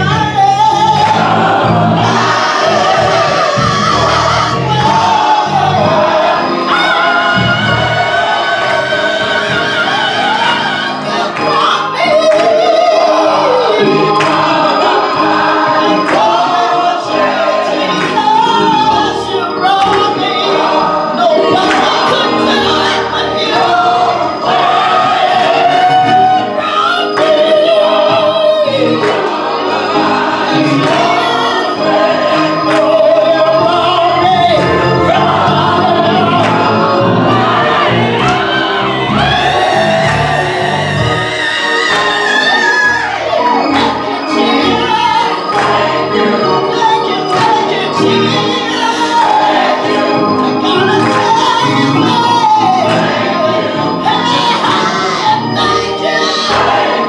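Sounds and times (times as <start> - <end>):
gospel singing: 0.0 - 57.0
piano accompaniment: 0.0 - 57.0.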